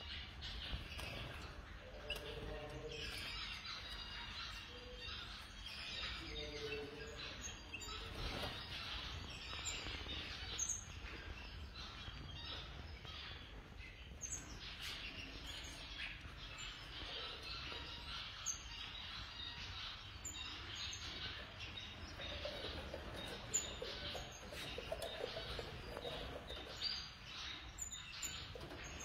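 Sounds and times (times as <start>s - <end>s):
caged birds chirping: 0.0s - 29.0s.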